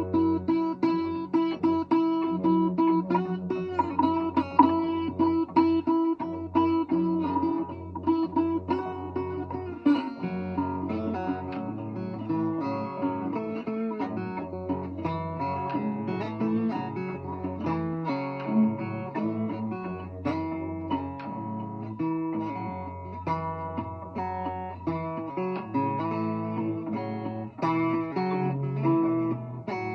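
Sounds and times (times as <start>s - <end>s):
acoustic guitar blues picking: 0.0s - 29.9s
long low guitar notes: 0.0s - 29.9s.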